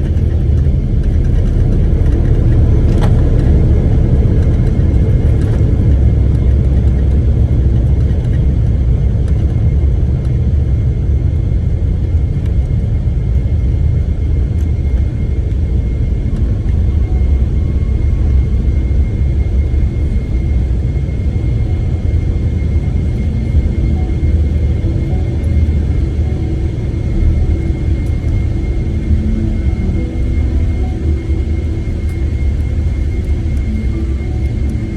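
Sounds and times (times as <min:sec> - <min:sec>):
airliner low rumble: 0:00.0 - 0:34.9
faint high whine: 0:00.0 - 0:34.9.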